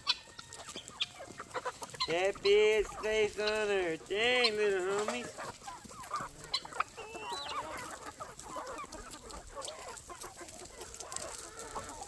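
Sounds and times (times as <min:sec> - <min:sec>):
chickens clucking: 0:00.0 - 0:12.0
chickens scratching: 0:00.0 - 0:12.0.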